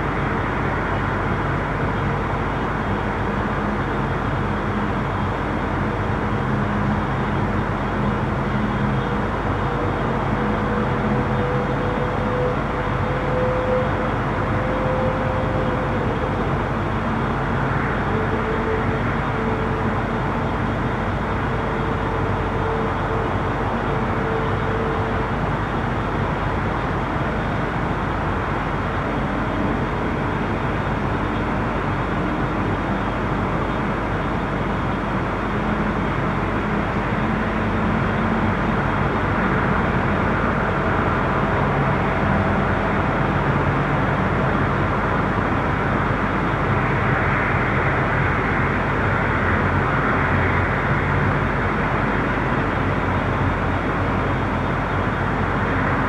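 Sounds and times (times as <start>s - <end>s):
passing traffic noise: 0.0s - 56.0s.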